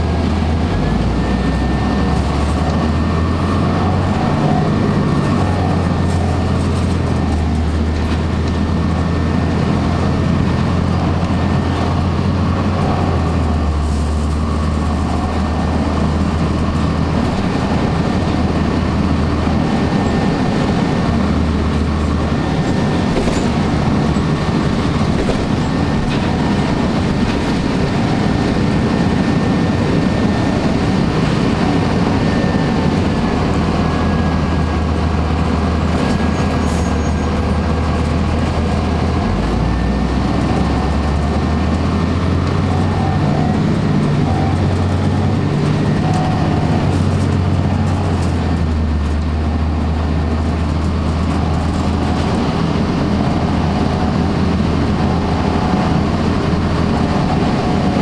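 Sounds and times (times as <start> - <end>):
bus diesel engine running: 0.0 - 58.0
road noise: 0.0 - 58.0.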